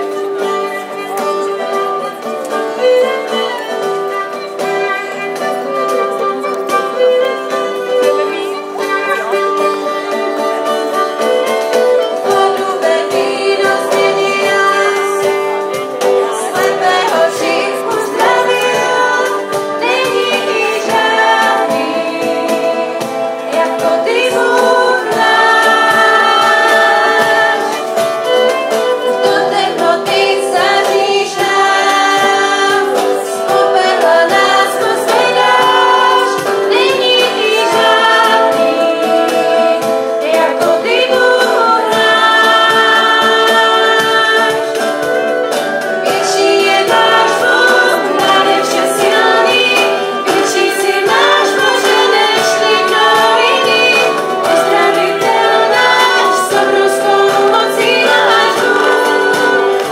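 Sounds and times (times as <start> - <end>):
acoustic guitar: 0.0 - 59.9
youth choir singing: 10.7 - 59.9.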